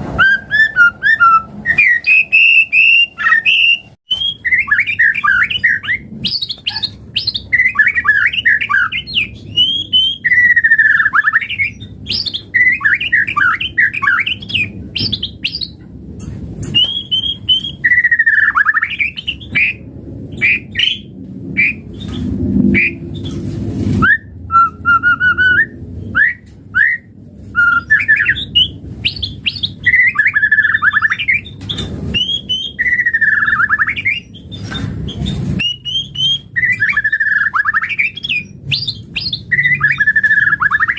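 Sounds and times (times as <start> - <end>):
songbird singing whistled trills: 0.2 - 15.8, 16.7 - 22.2, 24.0 - 40.9.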